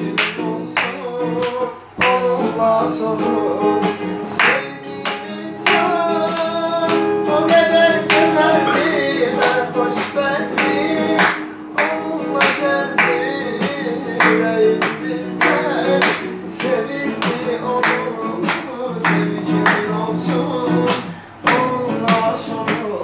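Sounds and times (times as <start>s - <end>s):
hand clapping on a beat: 0.0s - 23.0s
person singing: 0.0s - 23.0s.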